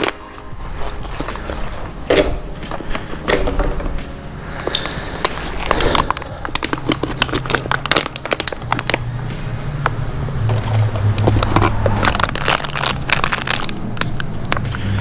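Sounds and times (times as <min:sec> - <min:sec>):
litter being crumpled: 0:00.0 - 0:15.0.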